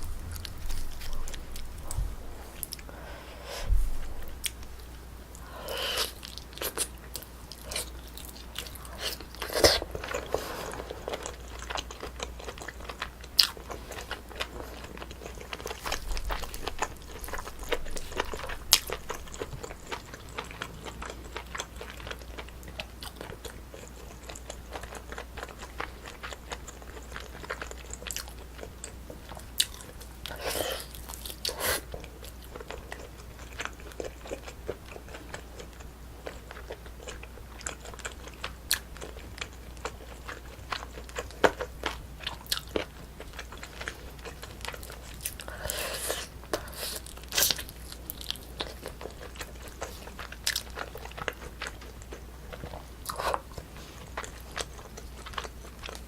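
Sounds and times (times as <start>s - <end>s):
person chewing and biting food: 4.0s - 56.0s.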